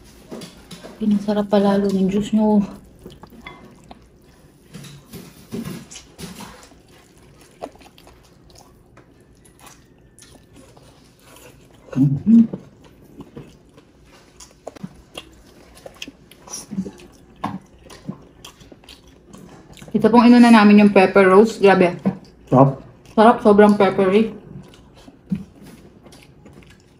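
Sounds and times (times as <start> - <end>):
chewing and biting food: 0.0 - 26.9.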